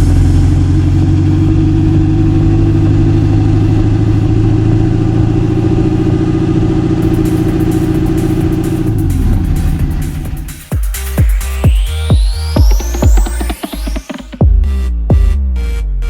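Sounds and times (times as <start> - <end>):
synthetic engine sound: 0.0 - 14.5.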